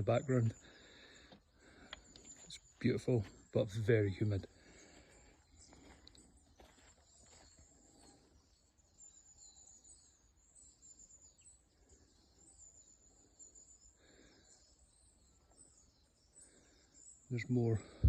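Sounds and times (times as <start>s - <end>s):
faint high-pitched chirping: 0.0s - 18.0s.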